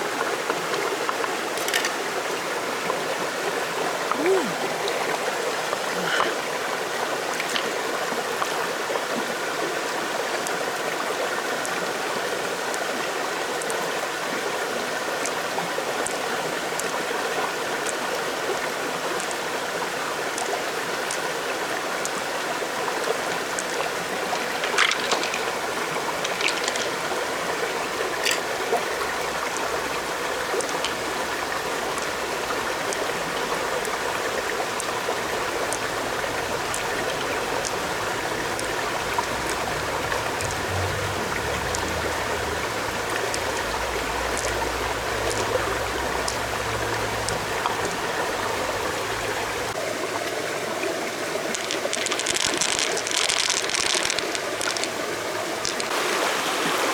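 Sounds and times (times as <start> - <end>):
stream water running: 0.0 - 56.9.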